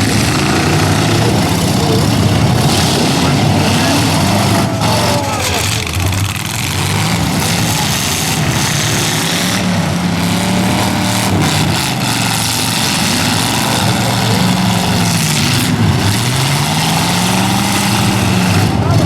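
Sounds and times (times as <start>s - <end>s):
pickup truck engines revving: 0.0s - 19.0s
trucks colliding: 0.0s - 19.0s.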